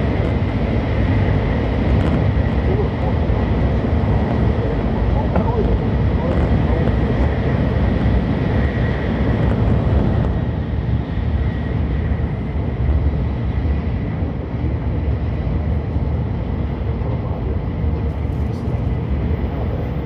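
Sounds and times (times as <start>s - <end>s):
train deep rumble: 0.0s - 20.0s.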